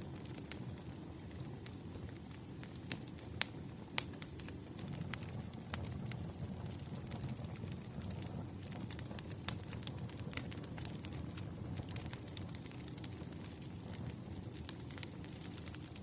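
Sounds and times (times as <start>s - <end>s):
firewood crackling and popping: 0.0s - 16.0s
low steady rumble of fire: 0.0s - 16.0s.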